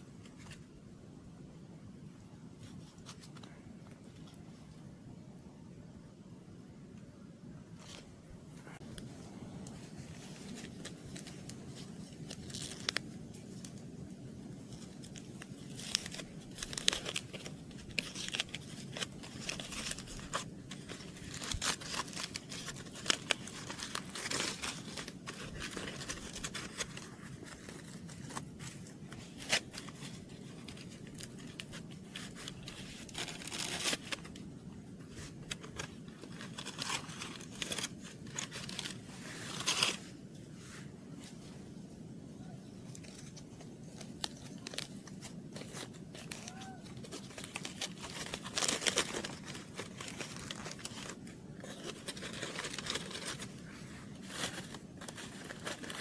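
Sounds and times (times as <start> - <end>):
low background noise: 0.0 - 56.0
crinkling and tearing: 7.8 - 40.4, 42.4 - 56.0.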